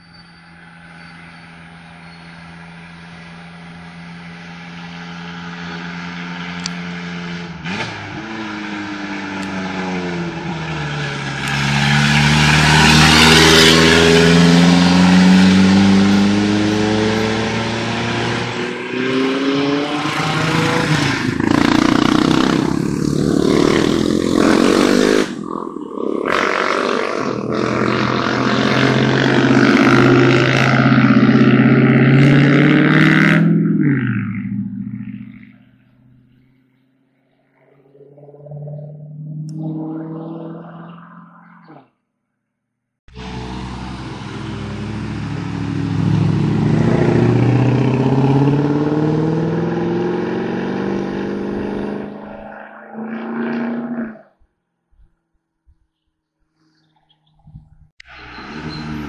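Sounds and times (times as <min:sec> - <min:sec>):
race car engine revving: 0:03.2 - 0:35.7, 0:37.2 - 0:41.7, 0:43.1 - 0:54.2.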